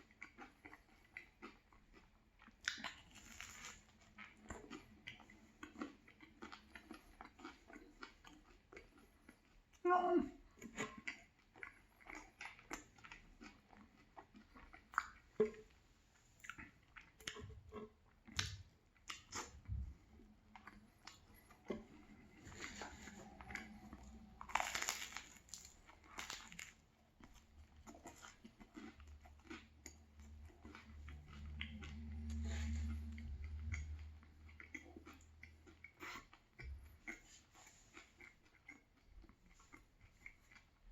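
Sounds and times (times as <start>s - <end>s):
crunchy sandwich chewing: 0.0s - 9.8s, 16.4s - 40.9s.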